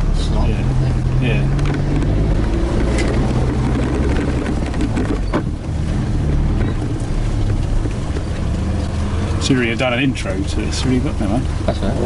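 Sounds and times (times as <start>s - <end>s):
truck engine at low speed: 0.0s - 12.0s
knocks and rattles of truck: 0.9s - 11.7s.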